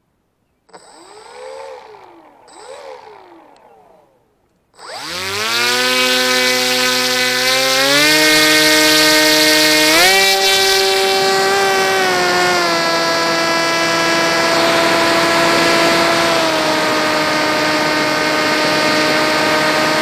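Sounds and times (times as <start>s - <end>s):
electric motor and propeller whine: 0.7s - 20.0s.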